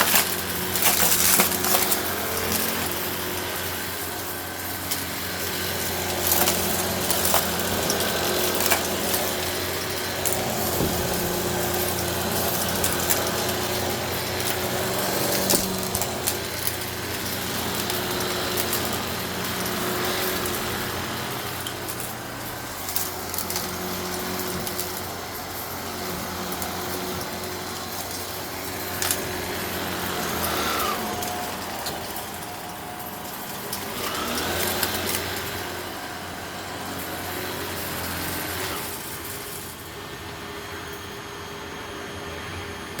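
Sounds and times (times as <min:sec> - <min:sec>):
gravel crackling into vacuum: 0:00.0 - 0:41.4
vacuum cleaner motor running: 0:00.0 - 0:43.0.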